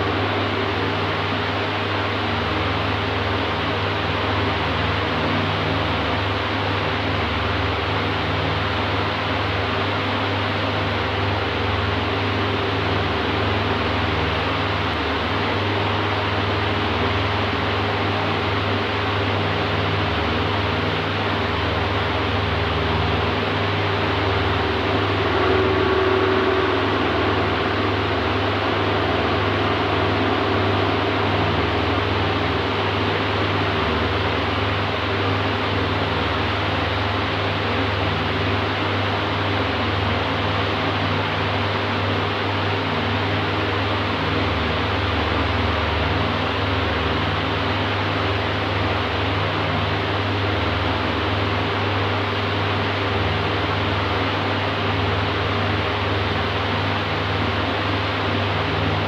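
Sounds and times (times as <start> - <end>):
electric fan running: 0.0 - 59.0.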